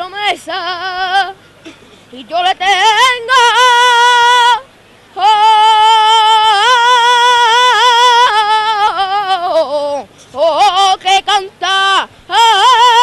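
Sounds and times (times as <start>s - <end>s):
boy singing flamenco solo: 0.0s - 1.4s, 2.1s - 13.0s.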